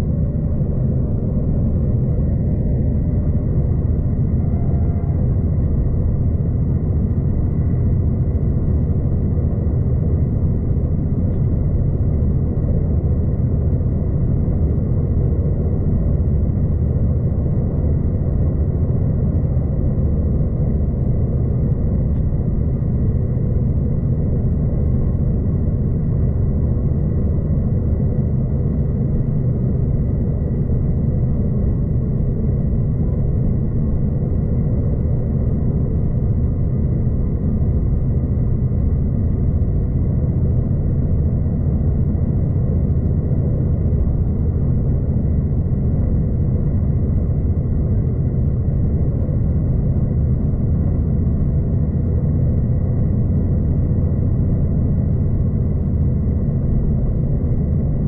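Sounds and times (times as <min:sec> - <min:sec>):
passenger train low rumble: 0:00.0 - 0:58.0.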